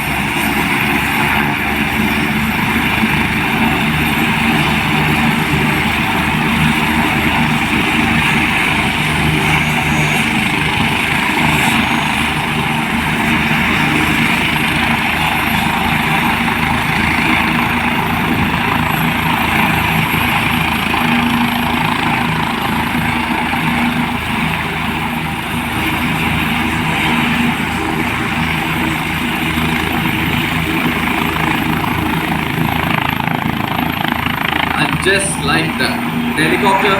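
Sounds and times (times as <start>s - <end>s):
helicopter whine and blade beat: 0.0s - 36.9s.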